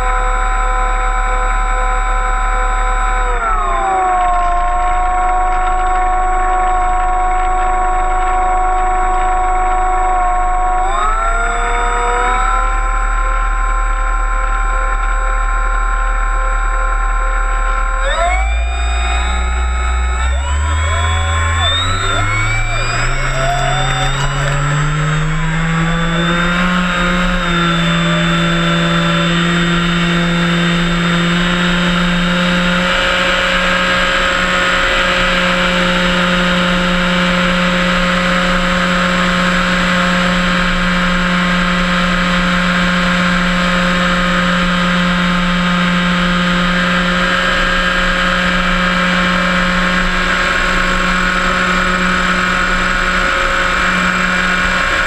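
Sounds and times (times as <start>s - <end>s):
electric motor and propeller humming: 0.0s - 55.0s.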